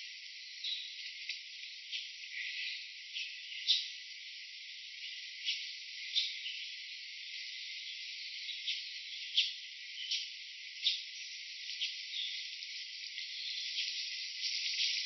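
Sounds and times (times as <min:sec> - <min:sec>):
insects chirping: 0:00.0 - 0:15.0
steady high hiss: 0:00.0 - 0:15.0.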